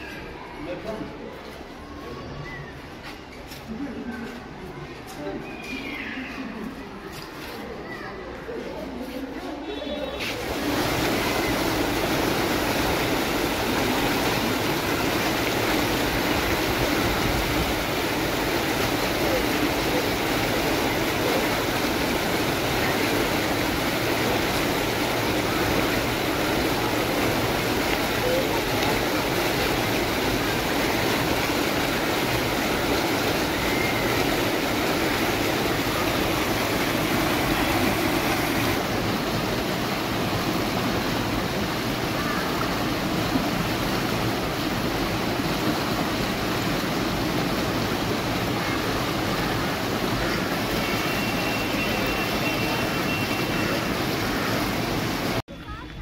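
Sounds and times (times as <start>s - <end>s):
water rushing down stone channel: 2.8s - 55.4s.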